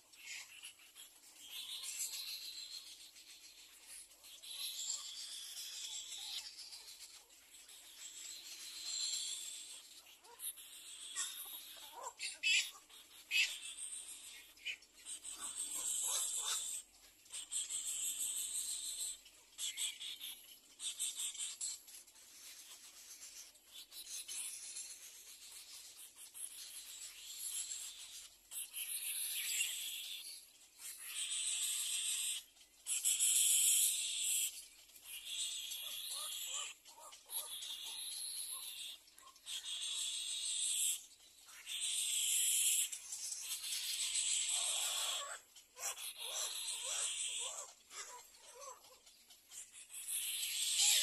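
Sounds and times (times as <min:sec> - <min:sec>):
bird chicks begging: 0:00.1 - 0:51.0.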